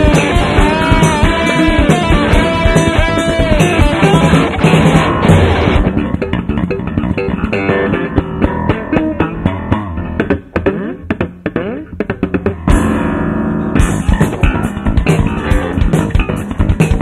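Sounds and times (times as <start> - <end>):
fast plucked bass guitar: 0.0 - 17.0
live rock band playing: 0.0 - 17.0.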